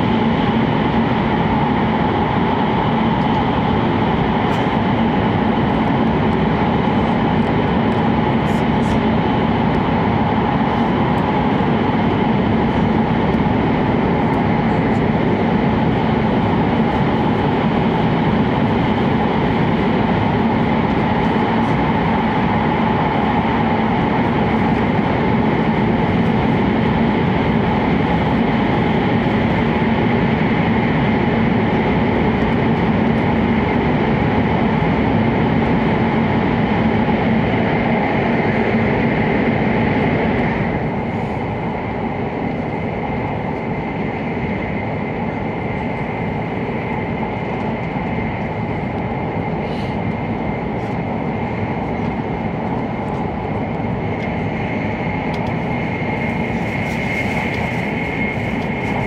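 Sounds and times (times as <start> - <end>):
train running noise rumble: 0.0 - 59.0.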